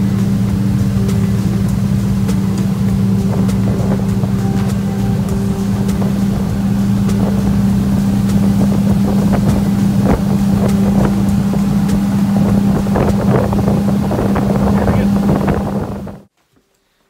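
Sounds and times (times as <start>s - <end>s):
outboard motor humming: 0.0s - 16.3s
wind buffeting microphone: 0.0s - 16.3s.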